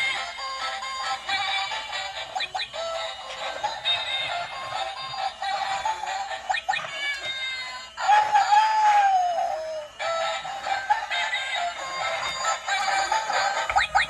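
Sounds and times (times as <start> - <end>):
toy playing tinny synthesized song: 0.0 - 14.0.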